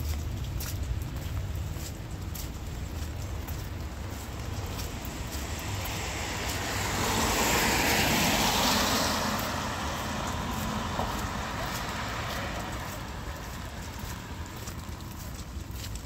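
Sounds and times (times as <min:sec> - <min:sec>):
car tyres hissing on wet road: 0:03.0 - 0:16.0.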